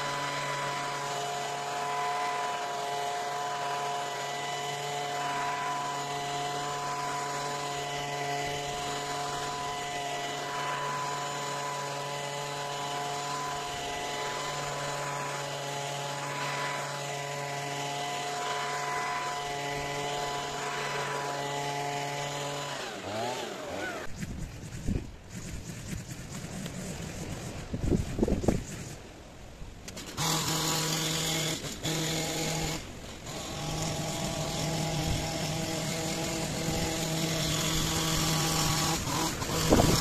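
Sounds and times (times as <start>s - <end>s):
leaf blower running: 0.0s - 29.2s, 29.8s - 40.0s.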